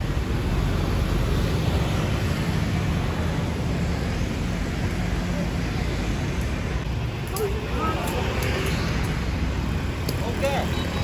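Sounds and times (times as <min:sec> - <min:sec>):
scooter and car engines passing: 0:00.0 - 0:11.0.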